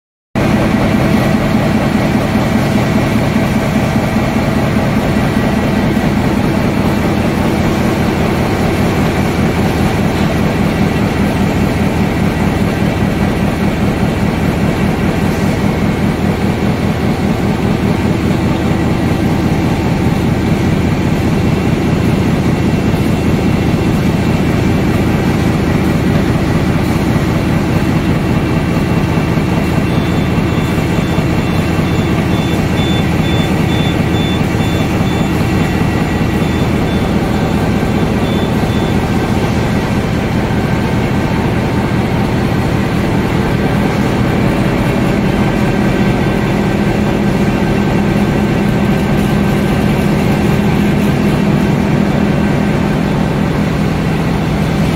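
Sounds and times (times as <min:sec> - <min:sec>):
box-making machine running: 0:00.4 - 0:54.9.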